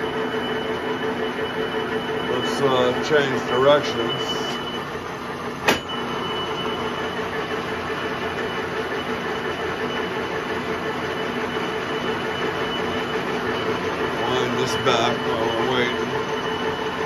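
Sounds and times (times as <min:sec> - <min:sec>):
metal lathe whirring: 0:00.0 - 0:17.0.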